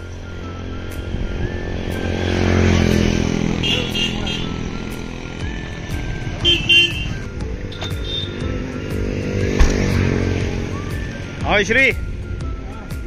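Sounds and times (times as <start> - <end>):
motorcycle passing by: 0.0 - 11.4.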